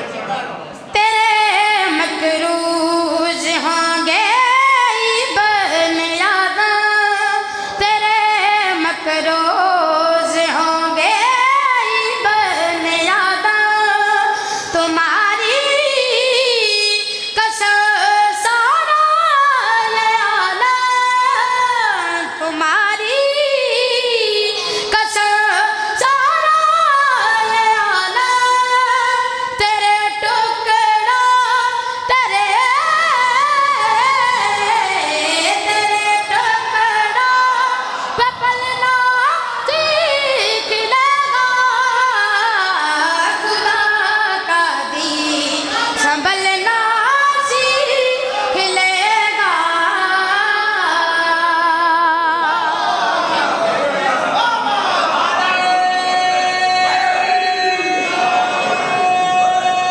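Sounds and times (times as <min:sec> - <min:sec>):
person singing devotional song: 0:00.9 - 0:52.8, 0:55.4 - 0:59.9.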